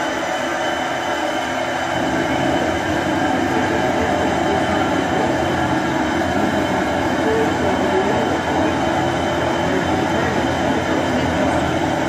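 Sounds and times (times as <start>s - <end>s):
steam locomotive hissing and rumbling: 0.0s - 12.0s.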